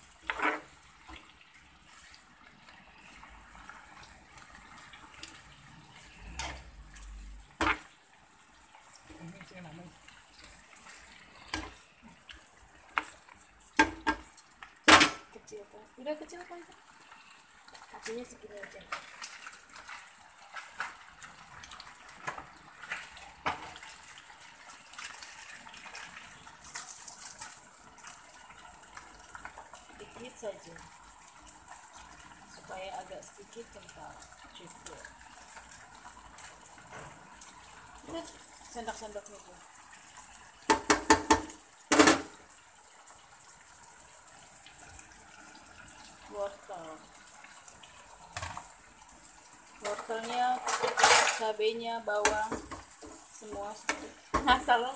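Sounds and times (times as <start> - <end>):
food sizzling in a frying pan: 0.0 - 54.9.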